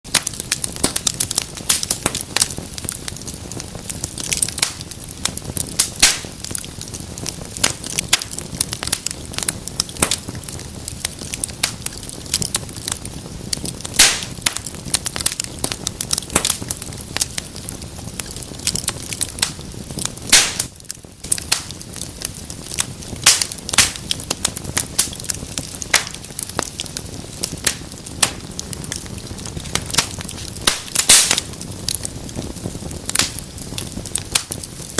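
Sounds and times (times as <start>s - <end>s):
wood fire crackling and popping: 0.0s - 34.9s
fire hissing: 0.1s - 34.9s.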